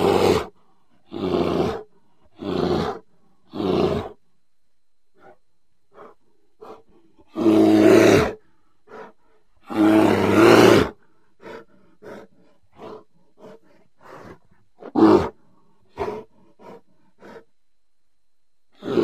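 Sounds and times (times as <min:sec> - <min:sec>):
bear deep calls: 0:00.0 - 0:04.2, 0:05.1 - 0:17.6, 0:18.7 - 0:19.0
bear grunting: 0:00.0 - 0:04.2, 0:05.2 - 0:17.5, 0:18.7 - 0:19.0.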